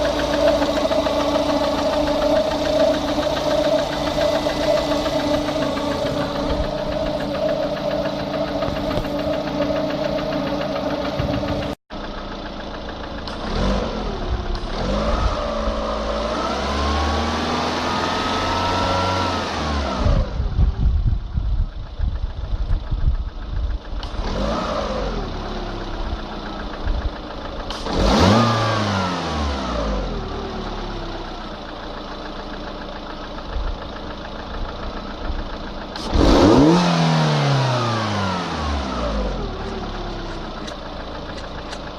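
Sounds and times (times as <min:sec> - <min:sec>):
car engine running with a knock: 0:00.0 - 0:16.4, 0:19.8 - 0:41.9.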